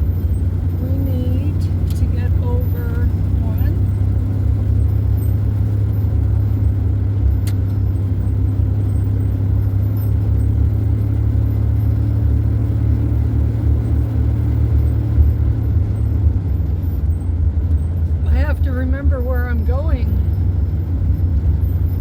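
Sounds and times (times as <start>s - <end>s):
road noise: 0.0s - 22.0s
van engine rumble: 0.0s - 22.0s.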